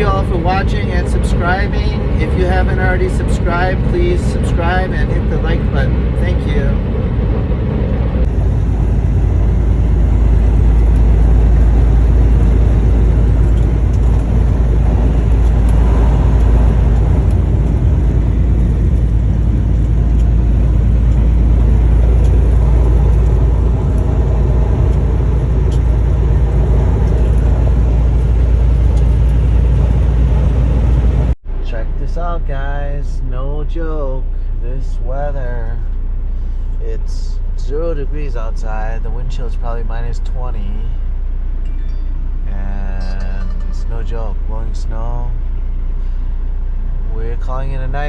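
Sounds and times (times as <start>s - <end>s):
road noise inside cab: 0.0s - 48.0s
semi-truck engine rumble: 0.0s - 48.0s.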